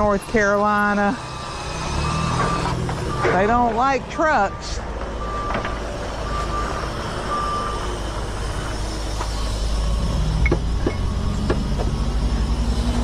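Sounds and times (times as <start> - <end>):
forklift backup alarm beeping: 0.0 - 11.7
low engine rumble: 0.0 - 13.0.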